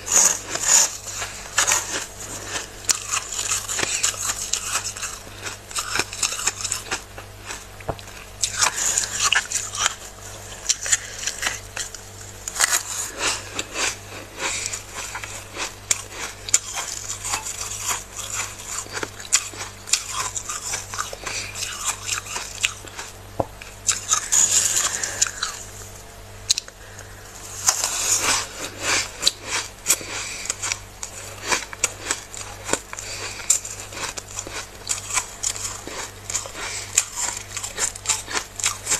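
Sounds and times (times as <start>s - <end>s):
freezer frost crunching as scraped: 0.0s - 26.1s, 26.8s - 38.9s.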